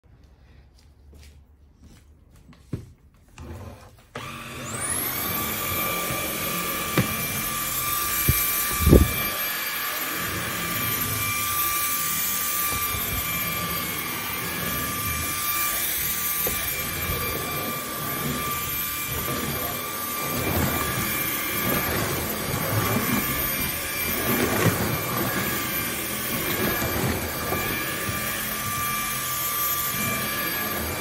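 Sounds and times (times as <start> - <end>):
vacuum motor whining: 3.4 - 31.0.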